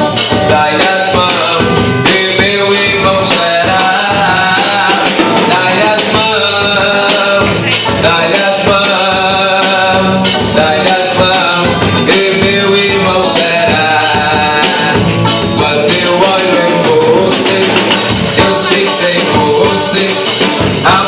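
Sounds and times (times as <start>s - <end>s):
guitar: 0.0s - 21.0s
percussion: 0.0s - 21.0s.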